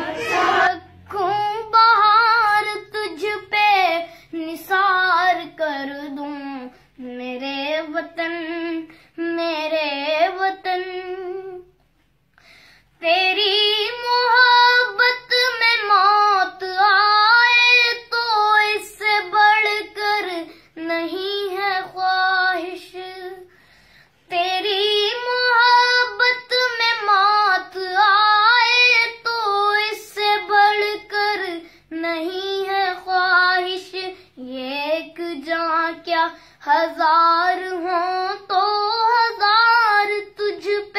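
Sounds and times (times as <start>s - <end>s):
girl singing: 0.0s - 11.8s, 13.0s - 23.5s, 24.2s - 40.9s.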